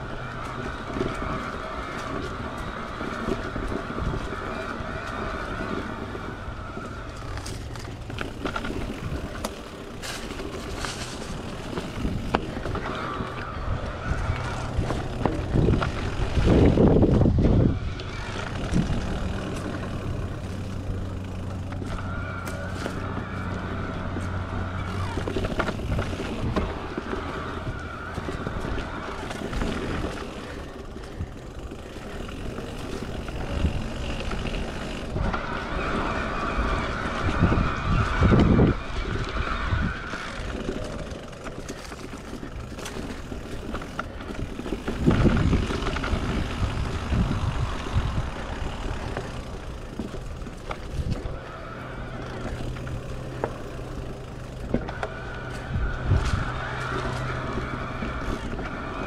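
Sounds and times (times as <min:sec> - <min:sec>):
bike frame rattle: 0:00.0 - 0:59.0
electric bike motor whine: 0:00.0 - 0:59.0
tyres on dirt trail: 0:00.0 - 0:59.0.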